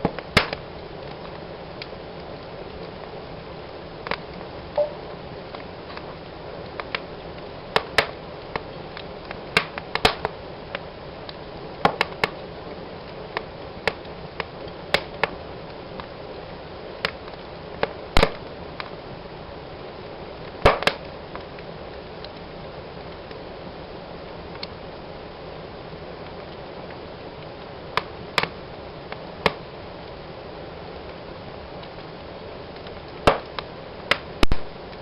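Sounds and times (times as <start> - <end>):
wood fire pops and snaps: 0.0 - 23.5, 24.2 - 25.4, 26.1 - 35.0
fire hissing: 0.0 - 35.0.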